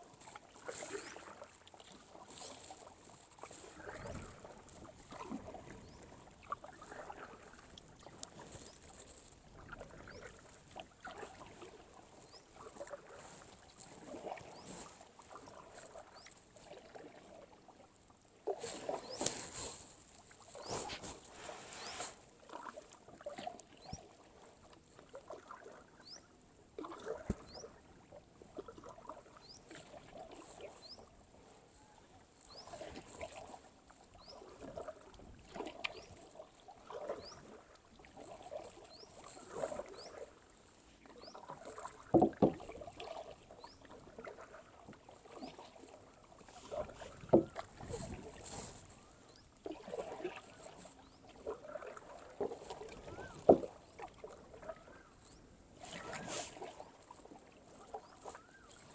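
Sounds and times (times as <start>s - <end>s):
paddle strokes through water: 0.0s - 58.9s.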